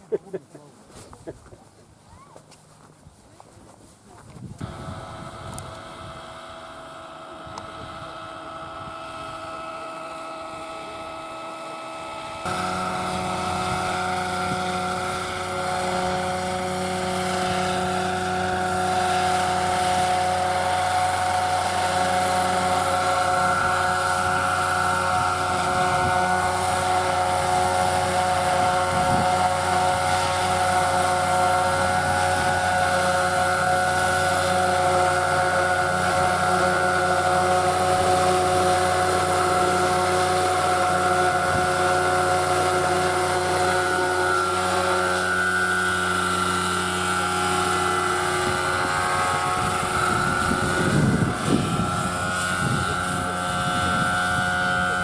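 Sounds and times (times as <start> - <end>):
model helicopter whine: 4.6 - 55.0.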